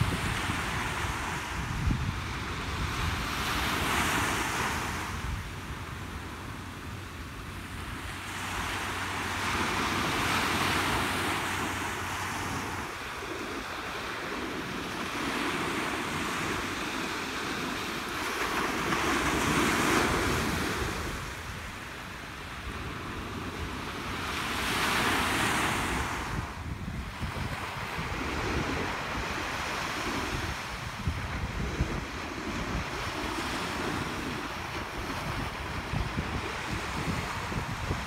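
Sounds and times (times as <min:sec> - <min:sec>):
ocean waves washing up beach: 0:00.0 - 0:38.0.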